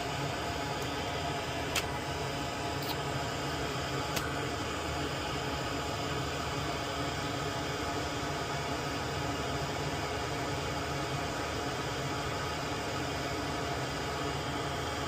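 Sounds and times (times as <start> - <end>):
fan-like whir and hiss: 0.0 - 15.0.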